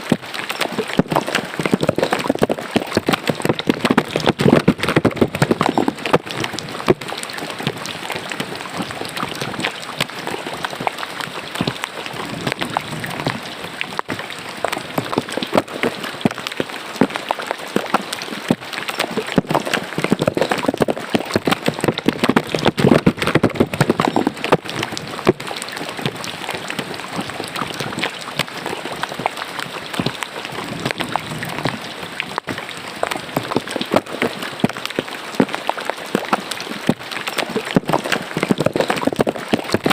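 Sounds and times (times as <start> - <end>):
rain splashing into ditch water: 0.0 - 39.9.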